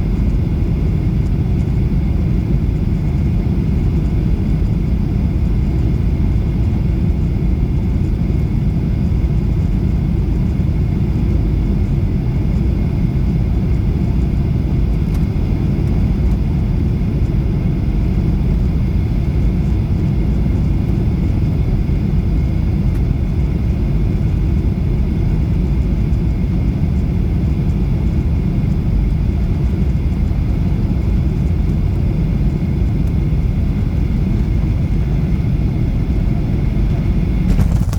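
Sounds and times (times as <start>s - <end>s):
airliner low rumble: 0.0s - 37.9s.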